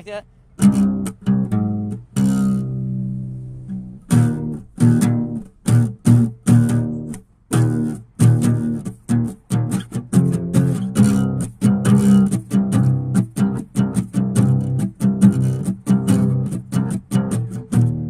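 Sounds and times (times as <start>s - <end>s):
guitar chords with bass: 0.6s - 18.0s.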